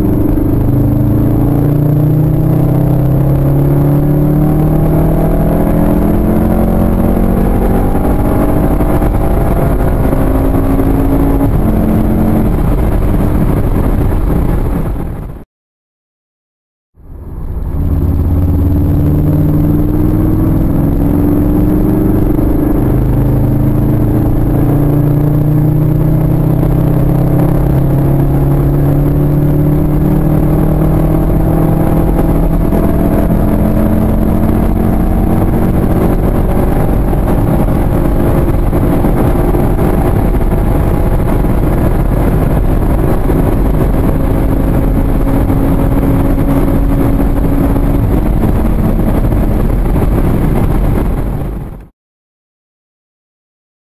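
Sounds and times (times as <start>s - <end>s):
car engine pulling hard: 0.0s - 14.8s, 17.0s - 51.5s
wind and road noise: 0.0s - 15.5s, 17.0s - 51.9s.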